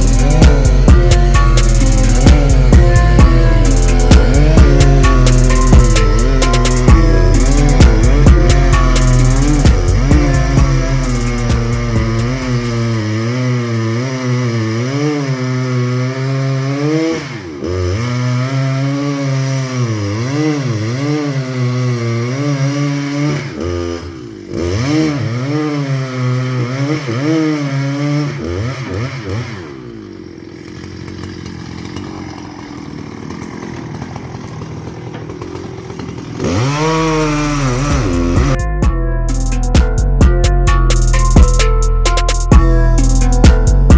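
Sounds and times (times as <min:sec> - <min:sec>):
chainsaw cutting timber: 0:00.0 - 0:43.9.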